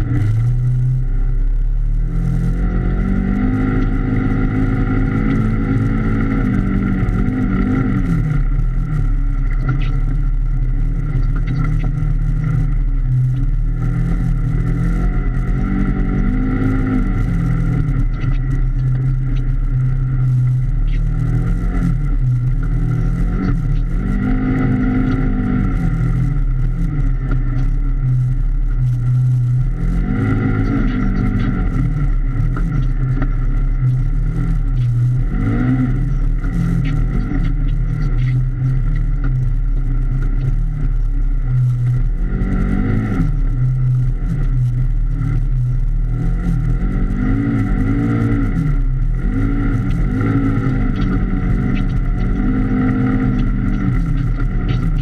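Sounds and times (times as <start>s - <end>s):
engine revving under way: 2.0s - 10.2s, 10.8s - 28.3s, 28.9s - 55.0s.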